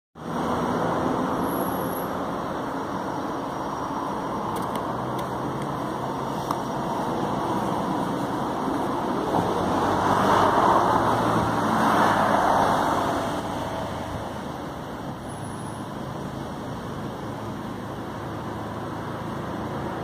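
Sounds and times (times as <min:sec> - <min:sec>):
road traffic rumble: 0:00.2 - 0:20.0.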